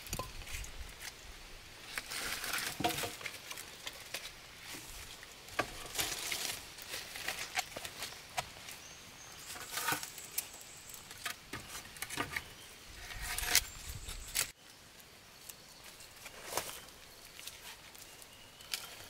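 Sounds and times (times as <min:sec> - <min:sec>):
rustling: 0:01.8 - 0:14.6, 0:15.4 - 0:19.0.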